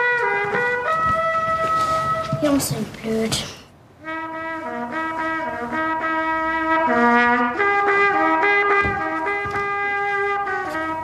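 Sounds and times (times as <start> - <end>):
brassy violin trumpet tune: 0.0 - 2.4, 4.0 - 11.0.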